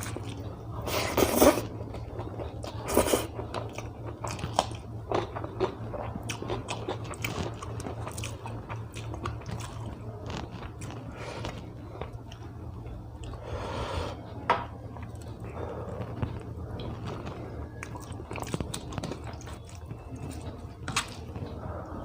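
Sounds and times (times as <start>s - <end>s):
chewing with wet mouth clicks: 1.2s - 13.4s, 14.9s - 21.7s.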